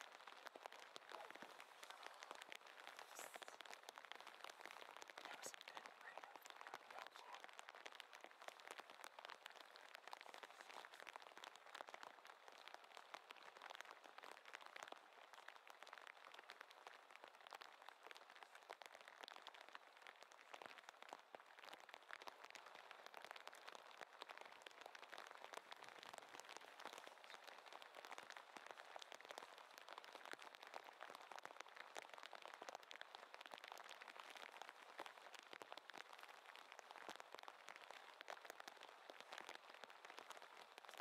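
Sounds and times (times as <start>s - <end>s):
light rain pattering: 0.0s - 41.0s.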